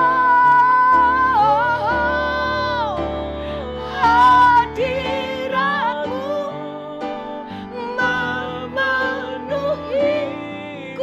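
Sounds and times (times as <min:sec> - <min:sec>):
people singing long notes: 0:00.0 - 0:11.0.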